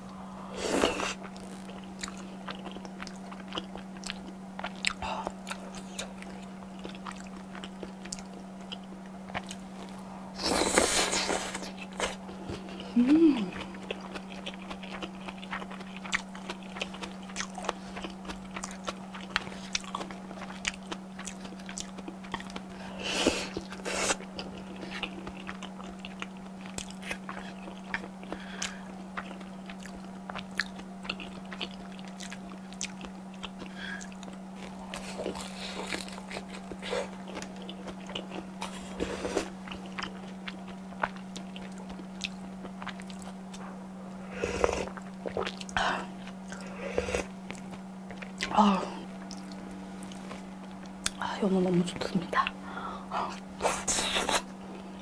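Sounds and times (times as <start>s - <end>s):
steady low hum: 0.0s - 55.0s
chewing and crunching fried shrimp: 0.5s - 55.0s.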